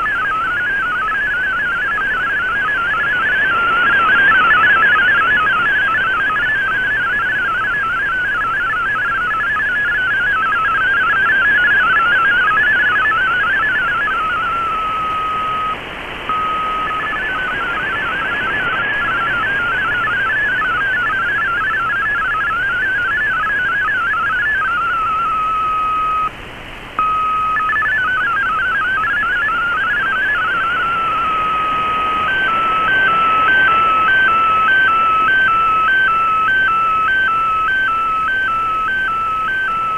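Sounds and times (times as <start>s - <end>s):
two-tone stepping signal: 0.0s - 26.3s, 27.0s - 39.9s
warbling data tones: 0.0s - 26.3s, 27.0s - 39.9s.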